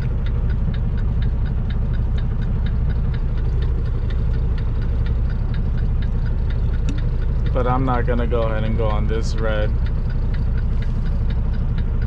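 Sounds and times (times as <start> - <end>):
diesel engine idling: 0.0 - 12.0
turn signal ticking: 0.0 - 12.0.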